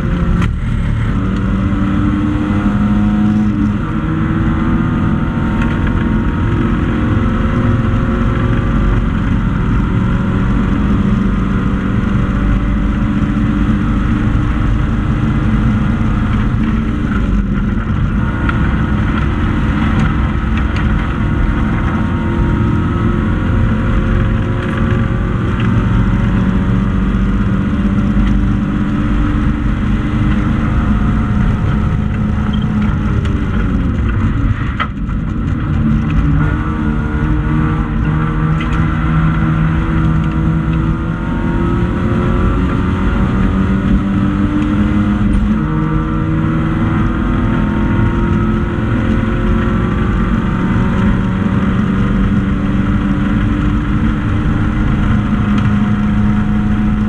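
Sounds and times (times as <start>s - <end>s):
car engine running hard: 0.0s - 57.0s
road and tyre noise: 0.0s - 57.0s.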